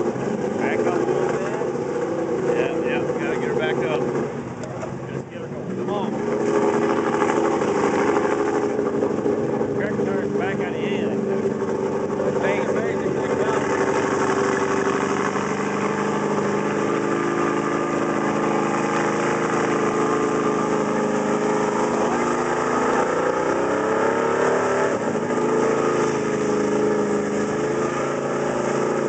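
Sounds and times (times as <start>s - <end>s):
tires churning through mud: 0.0s - 29.0s
truck engine running hard: 0.0s - 29.0s.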